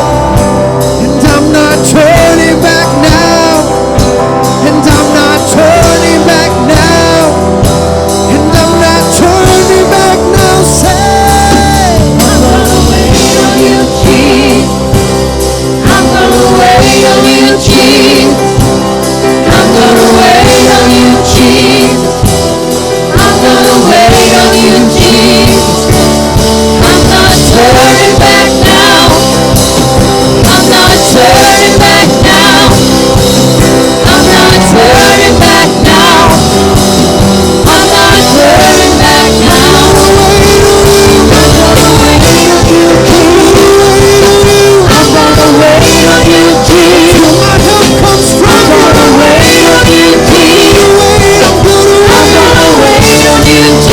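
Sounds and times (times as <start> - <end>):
guitar: 0.0 - 53.9
people singing: 0.0 - 53.9
worship band playing: 0.0 - 53.9.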